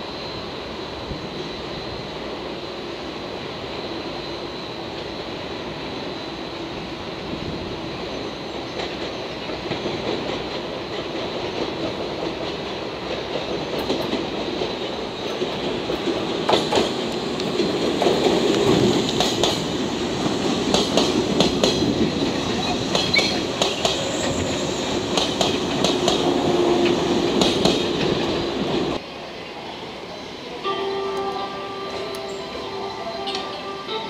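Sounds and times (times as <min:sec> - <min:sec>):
train rolling in: 0:00.0 - 0:34.0.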